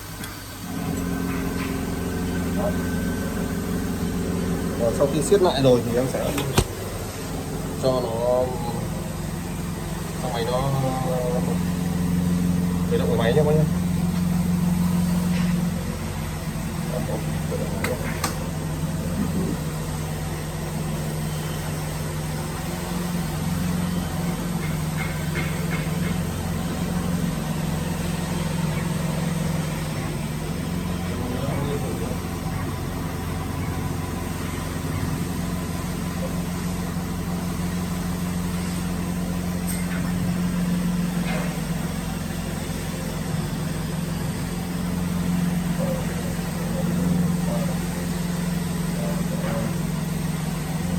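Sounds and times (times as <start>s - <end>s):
drilling machine motor hum: 0.0s - 50.9s.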